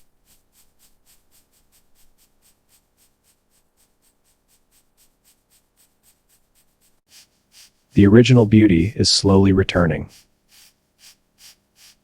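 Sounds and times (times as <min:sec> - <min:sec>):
faint scratching strokes on metal: 0:00.0 - 0:08.0, 0:10.1 - 0:12.0.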